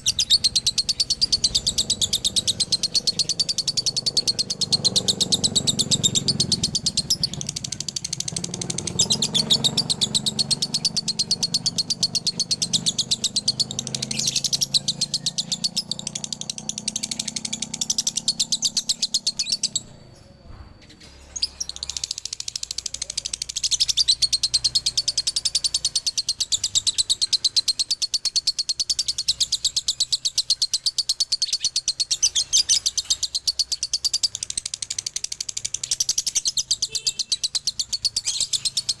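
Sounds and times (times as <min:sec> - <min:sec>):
lovebird chattering song: 0:00.0 - 0:39.0.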